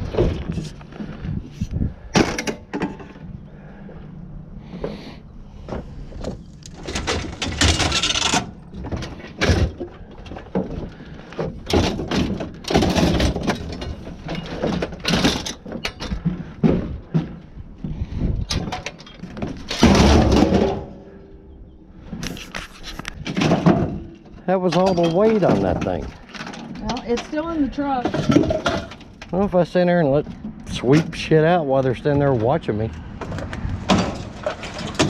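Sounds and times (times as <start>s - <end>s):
scrap metal clanking and crashing: 2.0s - 3.3s, 5.7s - 17.6s, 18.4s - 21.5s, 22.1s - 35.0s.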